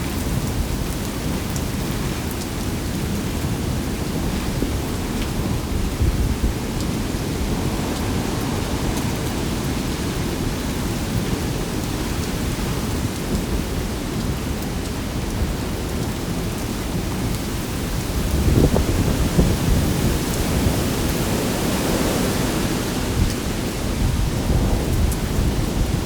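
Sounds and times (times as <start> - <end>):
gusting wind: 0.0 - 26.0
heavy rain pouring: 0.0 - 26.0.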